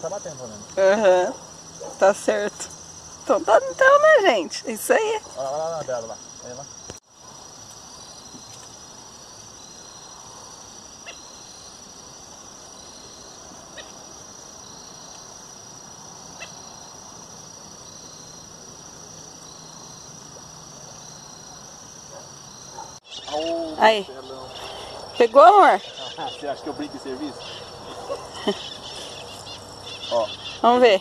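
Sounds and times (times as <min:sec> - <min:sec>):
insect chirping in short pulses: 0:00.0 - 0:31.0
insects trilling: 0:00.0 - 0:31.0.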